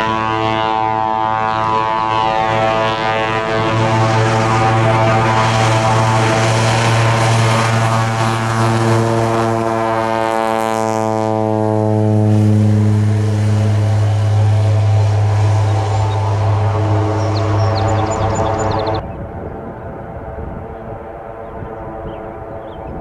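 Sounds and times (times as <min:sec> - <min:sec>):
high hiss of passing plane: 0:00.0 - 0:19.0
propeller plane drone: 0:00.0 - 0:23.0.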